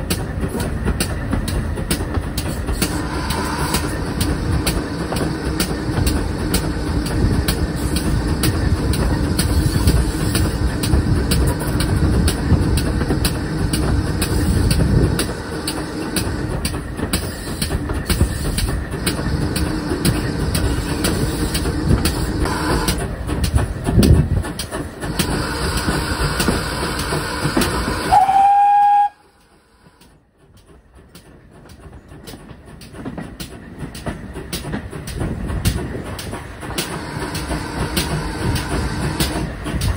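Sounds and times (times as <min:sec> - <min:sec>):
steam train rattling: 0:00.0 - 0:39.9.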